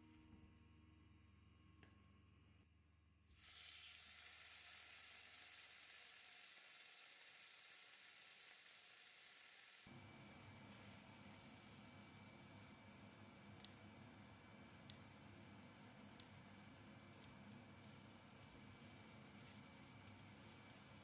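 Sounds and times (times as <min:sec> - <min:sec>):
food sizzling in a frying pan: 0:03.3 - 0:21.0.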